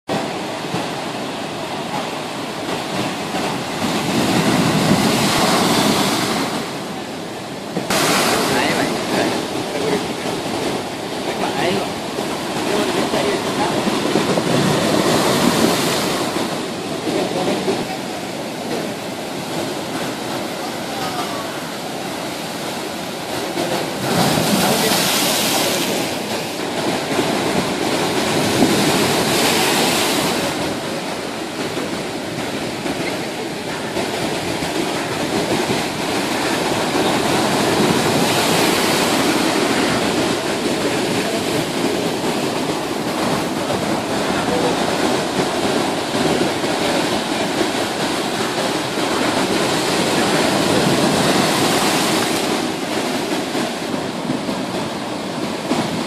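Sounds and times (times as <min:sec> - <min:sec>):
heavy waves breaking on shore: 0:00.0 - 0:56.0.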